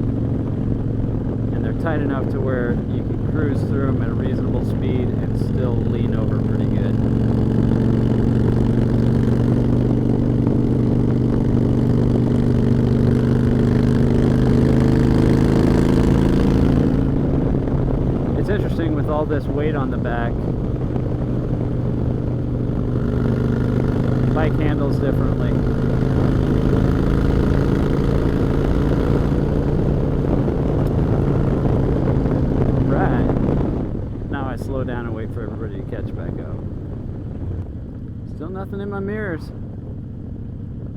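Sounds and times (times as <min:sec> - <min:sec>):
low wind rumble: 0:00.0 - 0:40.9
motorcycle engine running: 0:00.0 - 0:40.9.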